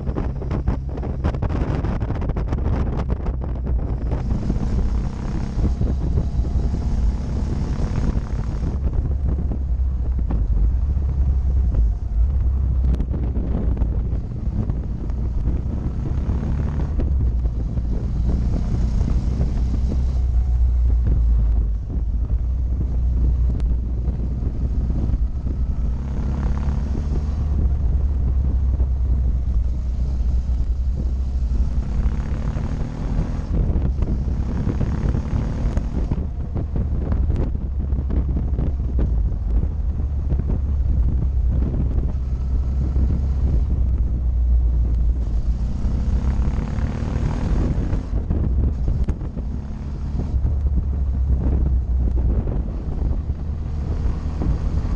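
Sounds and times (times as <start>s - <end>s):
motorcycle engine revving: 0.0s - 54.9s
wind buffeting microphone: 0.0s - 54.9s.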